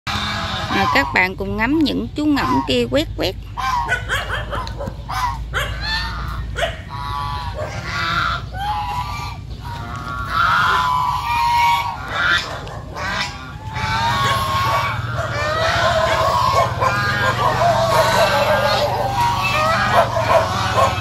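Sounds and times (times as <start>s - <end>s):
geese honking: 0.1s - 21.0s.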